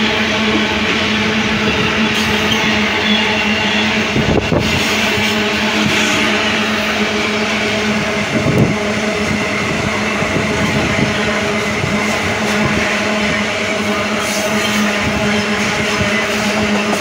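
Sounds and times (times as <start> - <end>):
train wheels humming on rails: 0.0 - 17.0.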